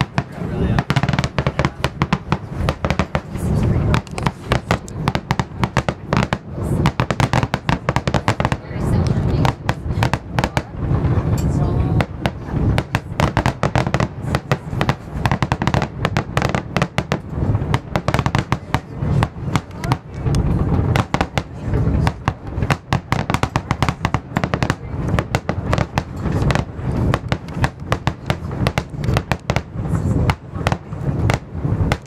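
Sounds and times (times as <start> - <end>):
deep continuous rumble: 0.0 - 32.0
fireworks bursting: 0.0 - 32.0.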